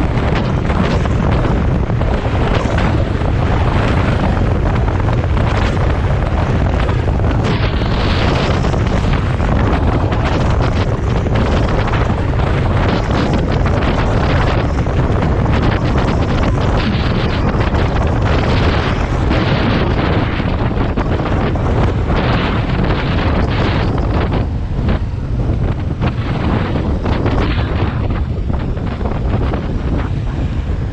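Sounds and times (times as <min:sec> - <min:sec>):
wind noise on microphone: 0:00.0 - 0:30.9.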